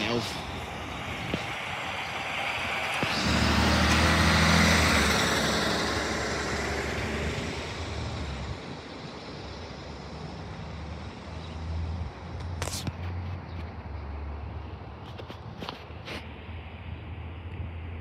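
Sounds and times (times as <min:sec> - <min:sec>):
truck driving past: 0:00.0 - 0:15.0.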